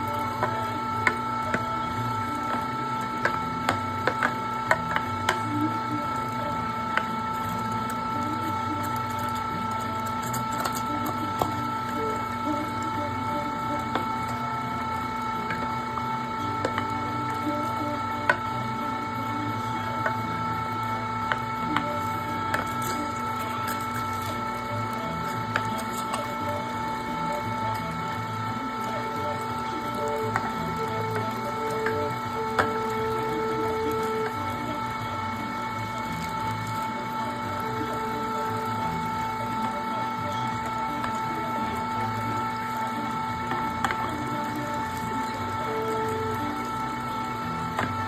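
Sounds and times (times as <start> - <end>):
electric meat grinder whining: 0.0 - 48.0.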